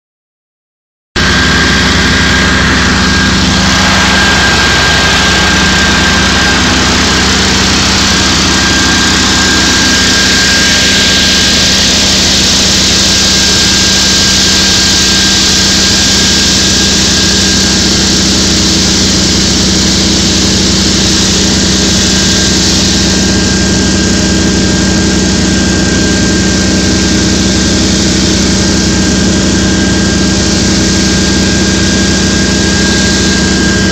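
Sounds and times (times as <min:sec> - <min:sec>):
faint high whine: 0:01.2 - 0:33.9
motor droning: 0:01.2 - 0:33.9.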